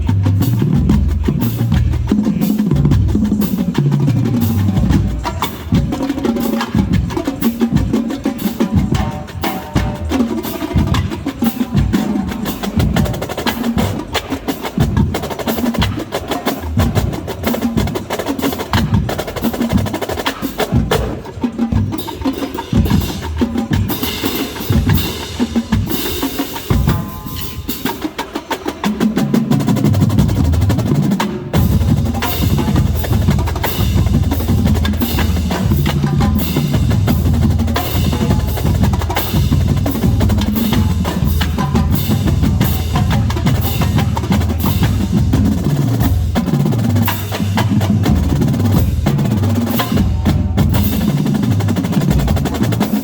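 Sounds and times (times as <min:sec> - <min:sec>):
marching drumline playing: 0:00.0 - 0:53.0.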